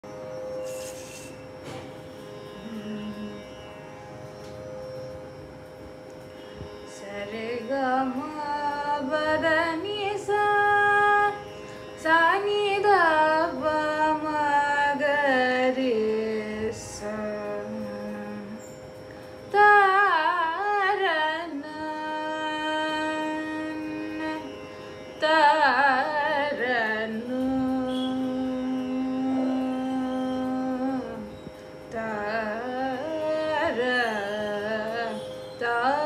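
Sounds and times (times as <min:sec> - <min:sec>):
steady drone: 0:00.0 - 0:36.0
woman singing: 0:02.6 - 0:03.5, 0:06.9 - 0:18.8, 0:19.5 - 0:36.0.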